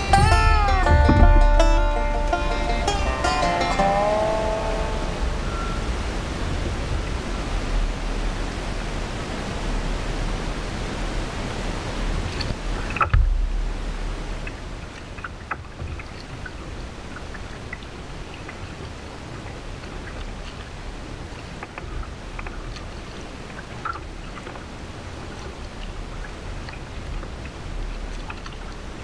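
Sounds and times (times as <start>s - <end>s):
paddle splashing and dripping: 0.0s - 29.0s
water washing against hull: 0.0s - 29.0s.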